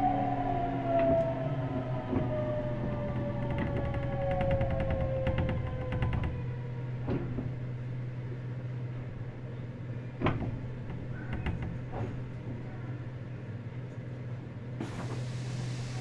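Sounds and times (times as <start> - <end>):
electric train inverter whine: 0.0 - 16.0.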